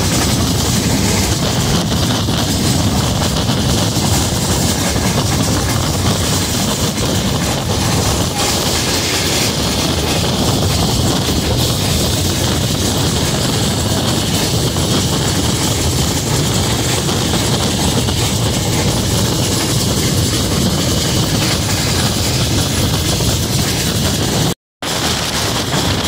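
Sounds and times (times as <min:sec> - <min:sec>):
train wheels rumbling on track: 0:00.0 - 0:26.0
wind rushing past train: 0:00.0 - 0:26.0.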